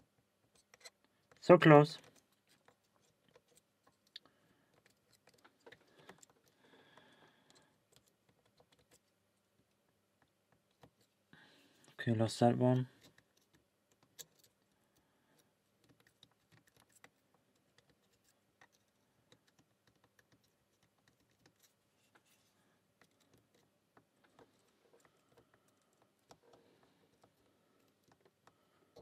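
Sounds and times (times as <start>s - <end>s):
lock pick clicking and scratching: 0.5s - 1.4s, 2.0s - 11.2s, 12.9s - 29.0s.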